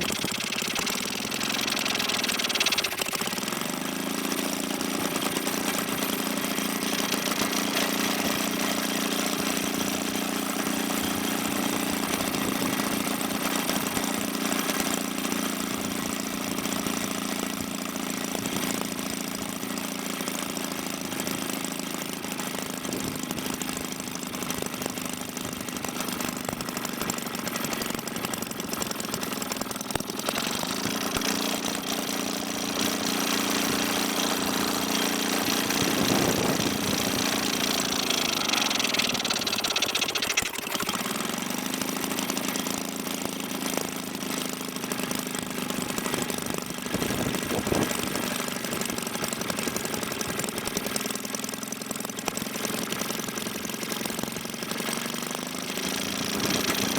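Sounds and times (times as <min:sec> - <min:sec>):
two-stroke engine running: 0:00.0 - 0:56.9.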